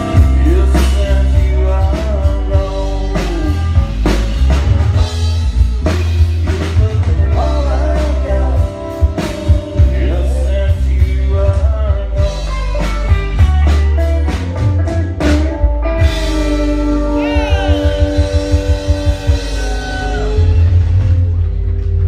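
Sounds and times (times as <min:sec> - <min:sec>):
electric guitar bending notes: 0:00.0 - 0:22.0
live rock band playing: 0:00.0 - 0:22.0.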